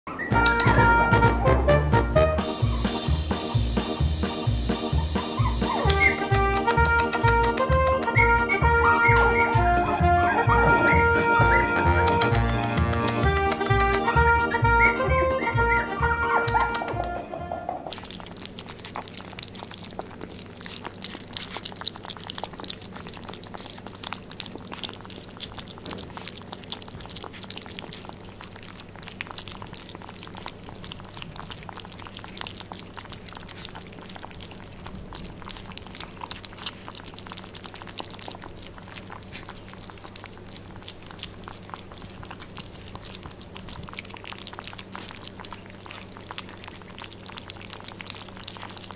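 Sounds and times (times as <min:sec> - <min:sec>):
puppies lapping food from bowl: 0:00.2 - 0:01.4, 0:02.4 - 0:17.3, 0:17.9 - 0:48.9.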